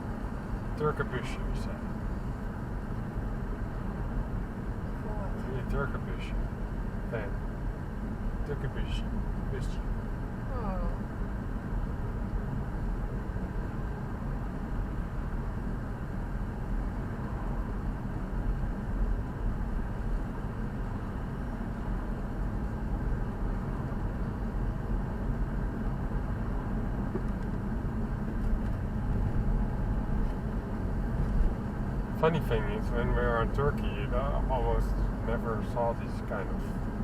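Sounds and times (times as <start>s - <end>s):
car interior road and engine noise: 0.0s - 37.0s.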